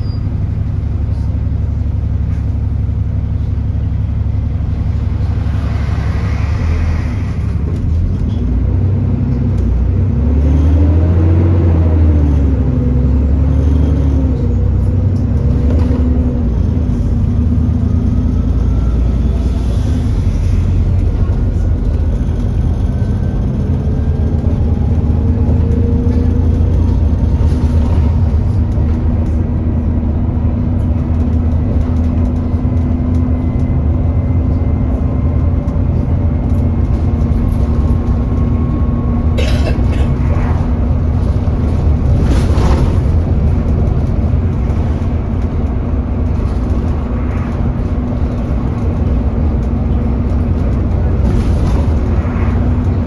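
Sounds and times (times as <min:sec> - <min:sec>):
bus diesel engine rumble: 0:00.0 - 0:53.0.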